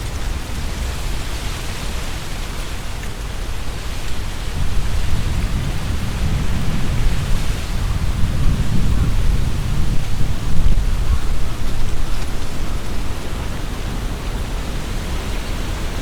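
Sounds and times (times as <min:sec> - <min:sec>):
wind buffeting microphone: 0:00.0 - 0:16.0
wind rustling tree leaves: 0:00.0 - 0:16.0.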